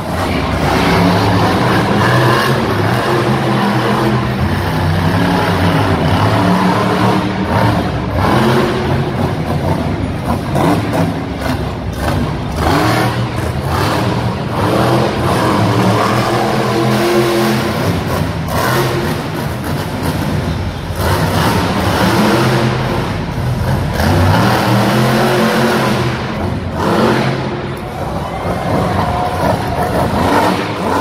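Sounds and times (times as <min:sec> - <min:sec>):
truck engine revving hard: 0:00.0 - 0:31.0.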